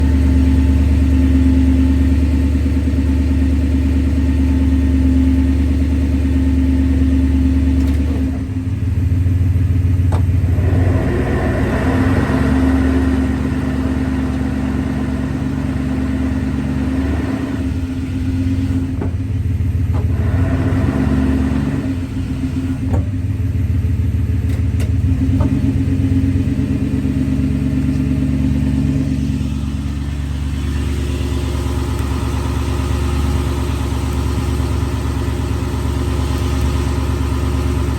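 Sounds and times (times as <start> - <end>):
engine running: 0.0 - 37.9.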